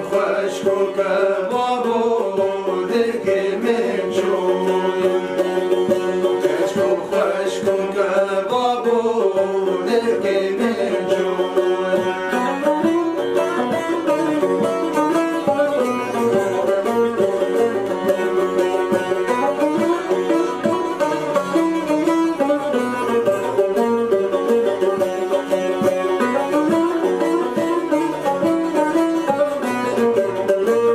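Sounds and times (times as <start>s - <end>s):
plucked string folk music: 0.0s - 30.9s.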